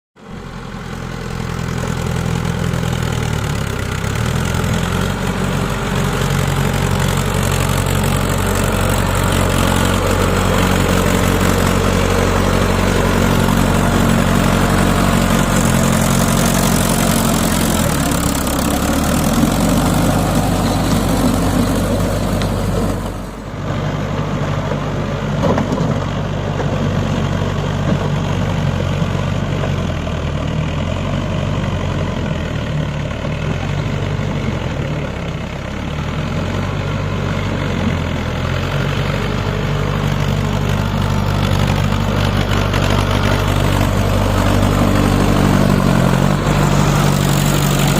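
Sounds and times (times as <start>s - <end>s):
tractor diesel engine running: 0.2s - 47.9s.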